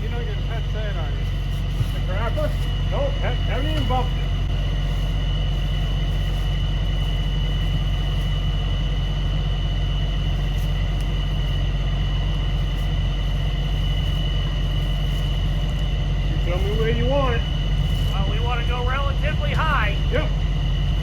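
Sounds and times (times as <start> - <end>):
thin high whine: 0.0 - 21.0
truck engine droning: 0.0 - 21.0.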